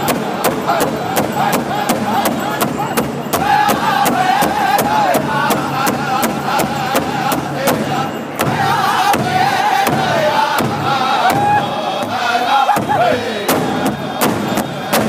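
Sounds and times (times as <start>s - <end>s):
large drum beating: 0.0s - 15.0s
men singing high-pitched chant: 0.0s - 15.0s.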